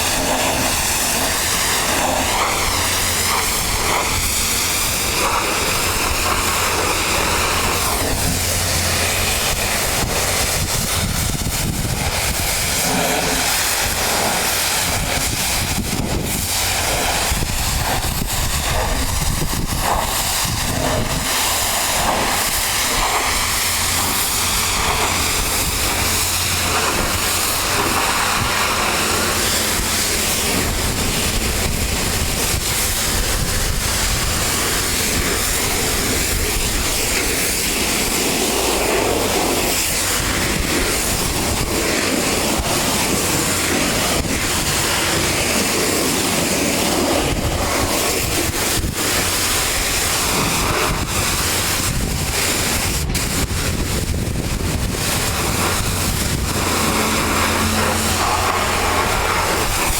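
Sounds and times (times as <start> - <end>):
low pump hum: 0.0 - 59.9
pressure washer spray hissing: 0.0 - 59.9.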